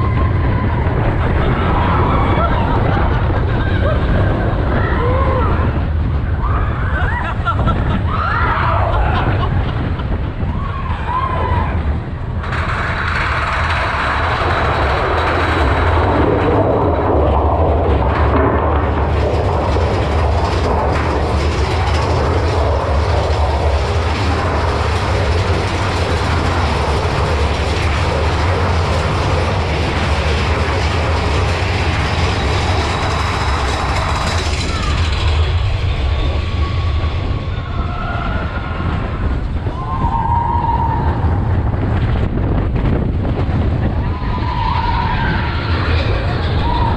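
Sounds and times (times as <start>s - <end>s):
roller coaster wheels rumbling on rails: 0.0s - 46.9s.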